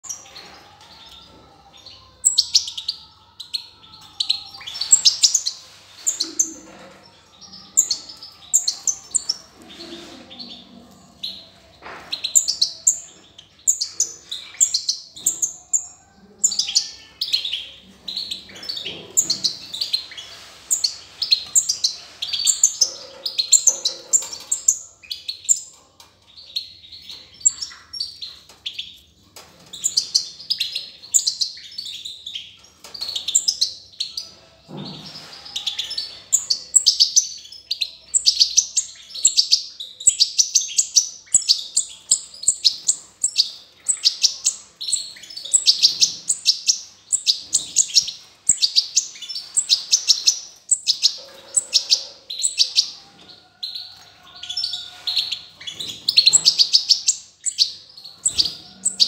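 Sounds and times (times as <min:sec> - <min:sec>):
birds twittering chirps: 0:00.0 - 0:59.0.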